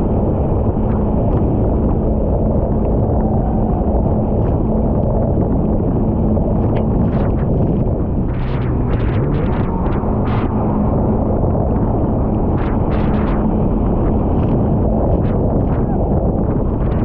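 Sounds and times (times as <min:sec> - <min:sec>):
jet ski engine drone: 0:00.0 - 0:17.0
wind noise on microphone: 0:00.0 - 0:17.0.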